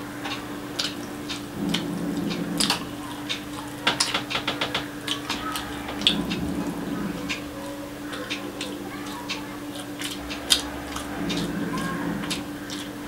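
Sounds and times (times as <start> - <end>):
steady low hum: 0.0 - 13.0
fingers squelching food on plate: 0.3 - 13.0.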